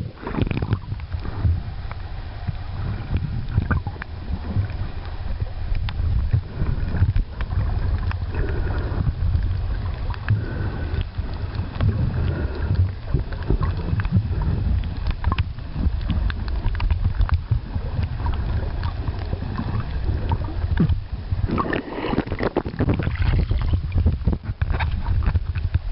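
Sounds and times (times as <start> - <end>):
underwater clicks and crackles: 0.0 - 25.9
underwater rumble: 0.0 - 25.9.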